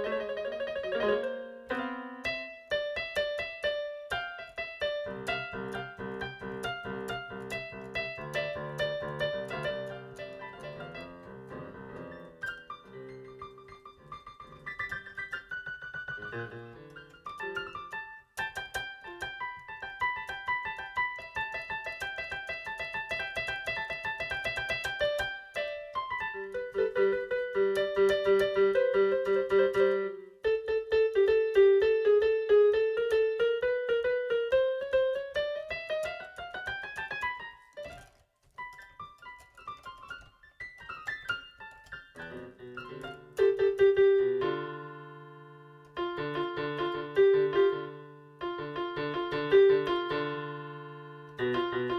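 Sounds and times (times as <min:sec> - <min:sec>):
solo piano music: 0:00.0 - 0:51.9.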